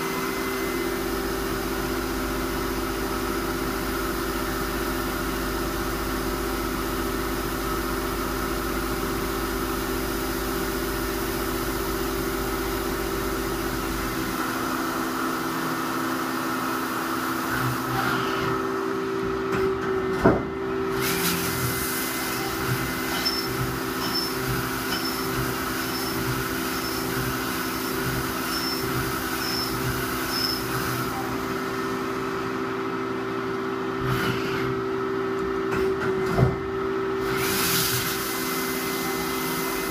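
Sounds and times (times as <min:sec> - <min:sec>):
lathe machine hum: 0:00.0 - 0:36.0.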